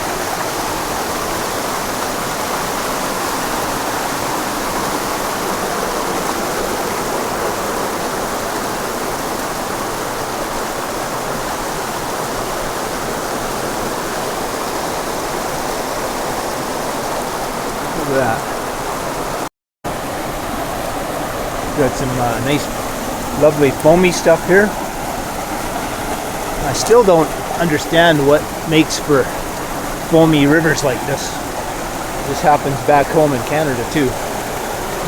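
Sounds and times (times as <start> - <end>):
water cascading over rocks: 0.0 - 35.0.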